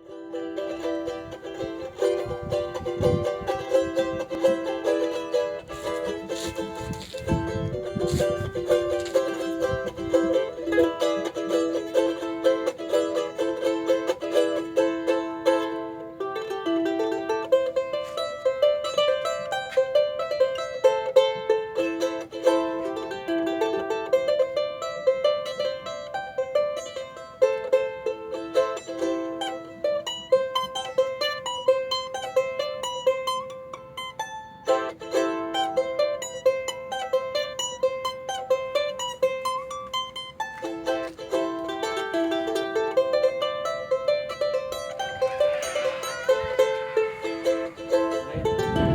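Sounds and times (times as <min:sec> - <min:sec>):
charango playing: 0:00.0 - 0:48.9.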